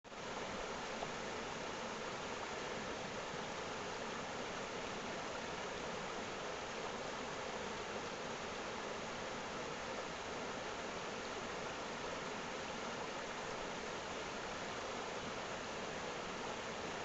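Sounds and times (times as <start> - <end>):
running water rushing: 0.1 - 17.0.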